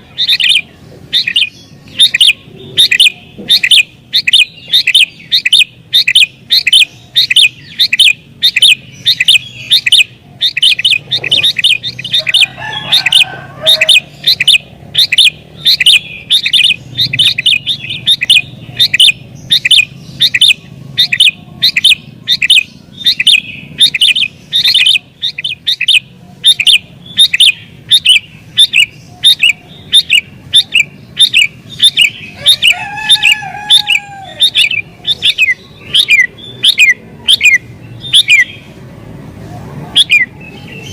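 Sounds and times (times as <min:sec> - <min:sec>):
bird chirping rapidly: 0:00.0 - 0:40.9.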